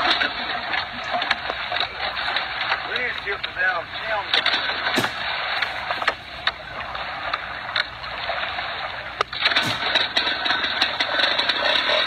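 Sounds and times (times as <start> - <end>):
clicks and clatter: 0.0 - 12.0.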